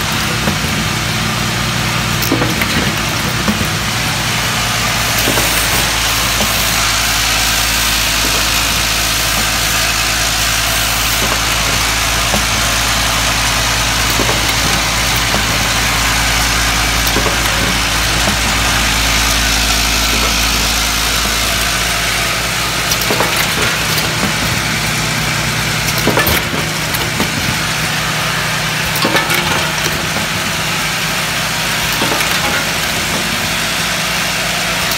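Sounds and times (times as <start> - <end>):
production line machinery humming: 0.0 - 34.9
sharp clicks and knocks: 0.0 - 34.9.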